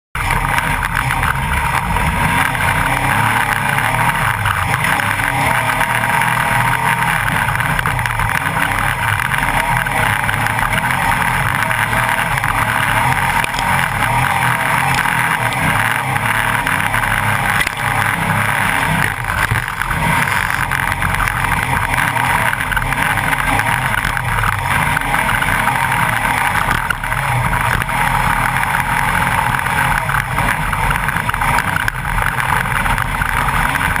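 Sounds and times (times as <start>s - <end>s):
buggy engine running hard: 0.1s - 34.0s
knocks and rattles: 0.2s - 34.0s
wind and road noise: 0.2s - 34.0s.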